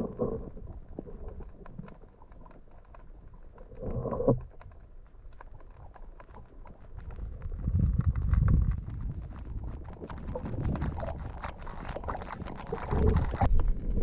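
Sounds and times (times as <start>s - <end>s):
underwater crackle of clicks: 0.0s - 14.0s.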